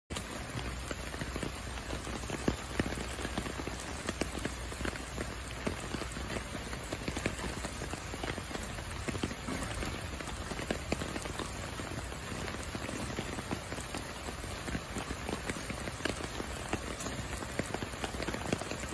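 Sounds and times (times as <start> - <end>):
heavy rain on flooded street: 0.1 - 18.9
raindrop hits: 0.1 - 18.9.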